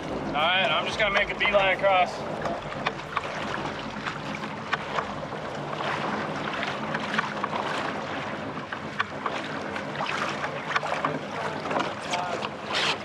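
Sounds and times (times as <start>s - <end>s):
water splashing against hull: 0.0s - 13.0s.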